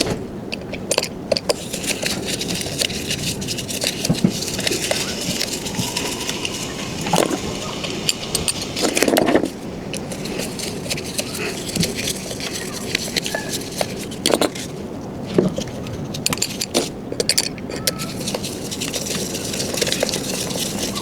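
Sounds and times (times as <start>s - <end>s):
tools clicking and scraping: 0.0s - 14.8s, 15.4s - 21.0s.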